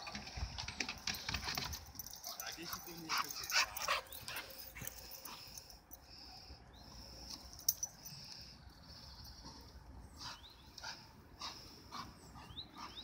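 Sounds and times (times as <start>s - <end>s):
dog breathing and sniffing: 0.0s - 13.0s.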